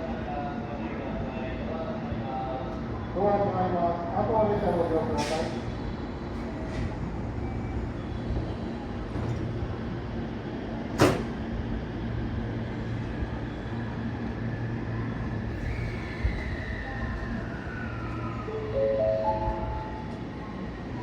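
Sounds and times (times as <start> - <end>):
low train rumble: 0.0 - 21.0.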